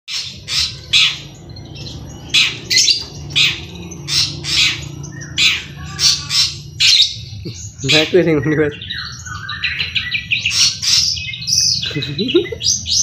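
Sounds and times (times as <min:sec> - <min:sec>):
shrike harsh rasping calls: 0:00.1 - 0:11.3.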